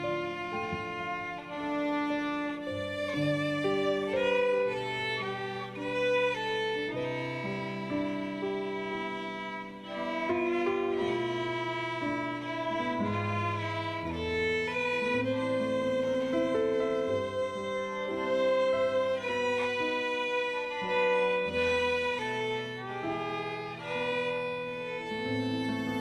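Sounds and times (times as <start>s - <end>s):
solo violin melody: 0.0s - 26.0s.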